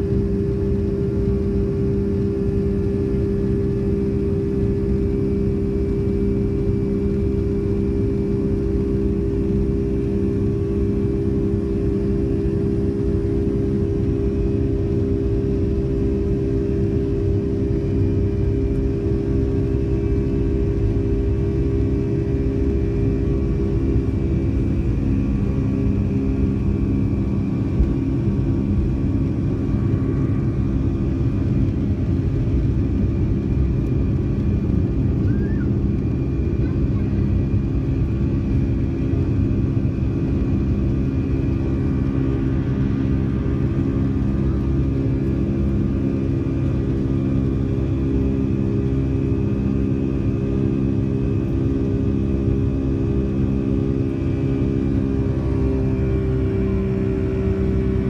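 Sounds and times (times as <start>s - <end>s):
jet engines drone: 0.0s - 58.0s
steady engine tones: 0.0s - 58.0s.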